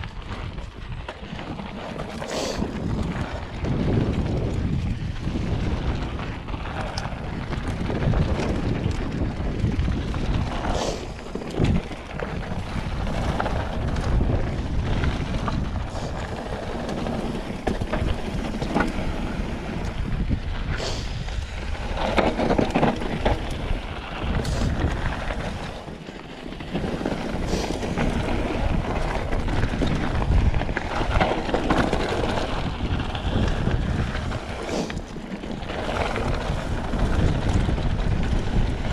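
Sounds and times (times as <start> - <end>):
bike knocks and rattles: 0.0 - 20.4, 21.6 - 38.9
wind rushing over microphone: 0.0 - 38.9.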